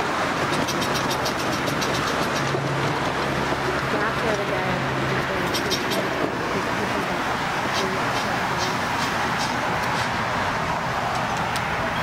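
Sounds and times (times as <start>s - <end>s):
miniature train rolling on track: 0.0s - 12.0s.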